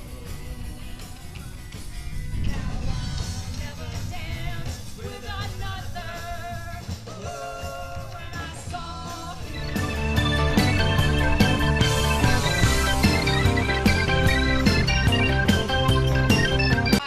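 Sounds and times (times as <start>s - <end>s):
rock and roll music with singing: 0.0s - 17.0s.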